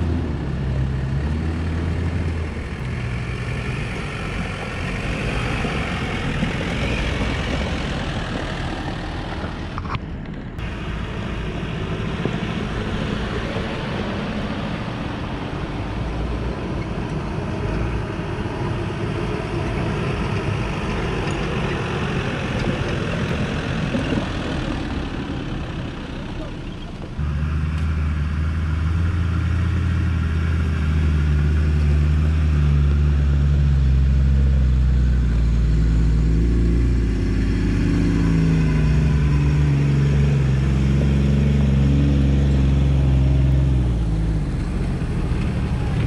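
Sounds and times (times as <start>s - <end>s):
off-road vehicle engine and tyres: 0.0s - 46.0s.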